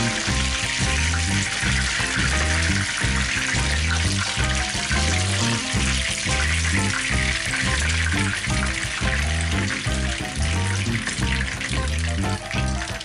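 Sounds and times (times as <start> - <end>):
music with steady bass: 0.0 - 13.0
oil sizzling in frying pan: 0.0 - 13.0.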